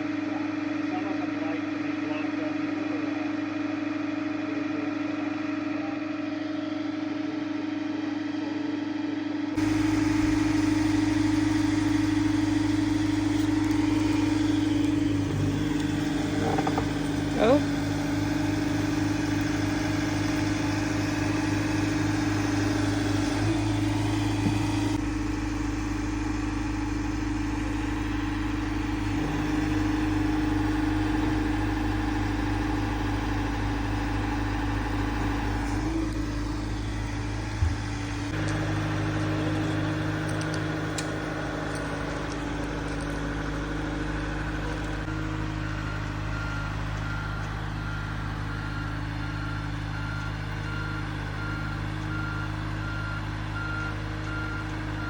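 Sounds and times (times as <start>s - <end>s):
lift engine running: 0.0s - 55.0s.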